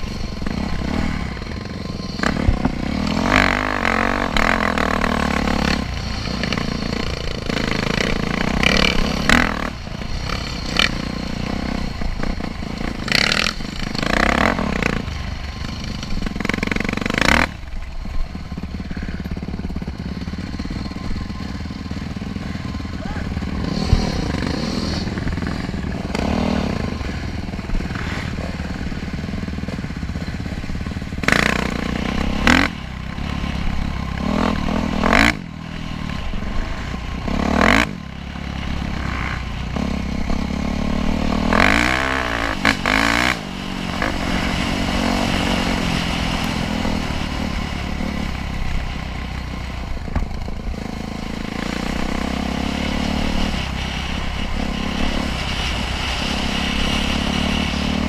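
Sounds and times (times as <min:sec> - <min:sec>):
dirt bike engine revving: 0:00.0 - 0:58.0
loud rushes of noise: 0:00.0 - 0:58.0.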